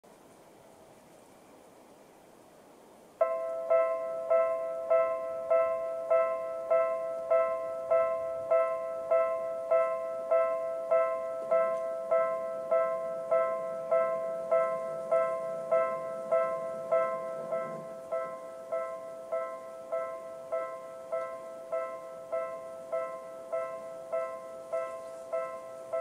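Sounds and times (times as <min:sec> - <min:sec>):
level crossing electronic bell: 0:03.2 - 0:26.0.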